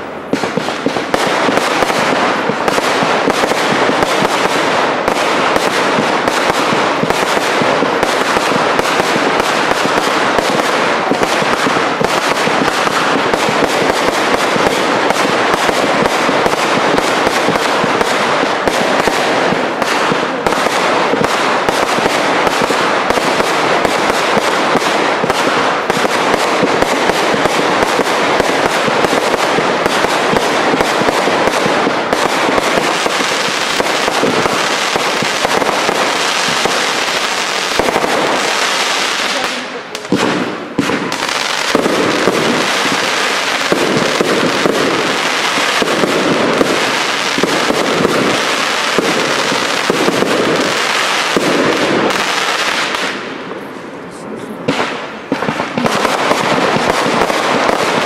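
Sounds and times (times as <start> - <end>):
fireworks barrage: 0.0 - 58.0.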